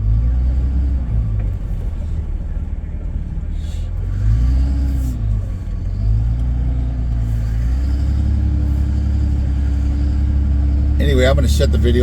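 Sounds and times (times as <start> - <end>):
vehicle engine drone from cab: 0.0 - 12.0.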